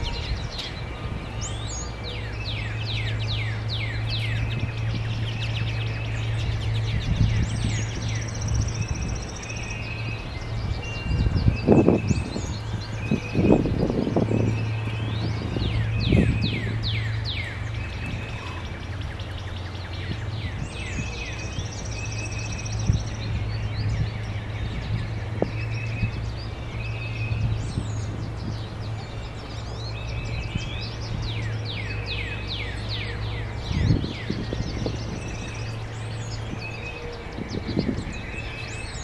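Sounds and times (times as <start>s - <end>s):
songbirds singing: 0.0s - 39.0s.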